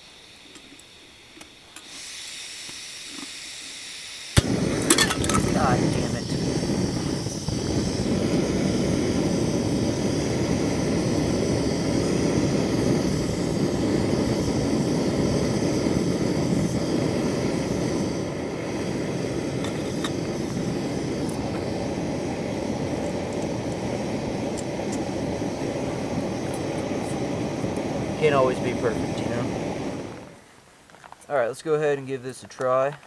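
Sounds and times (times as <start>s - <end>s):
gas stove burner rushing: 0.0s - 30.5s.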